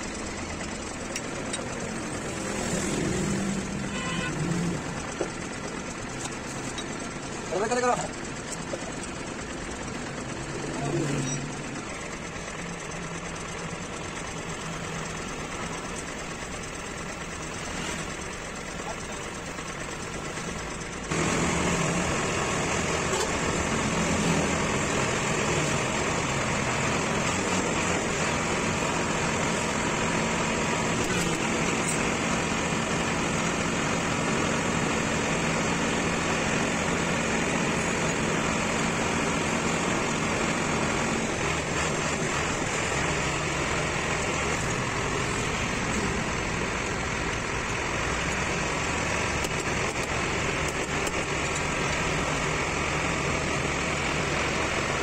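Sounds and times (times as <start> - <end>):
steady vehicle noise: 0.0 - 55.0.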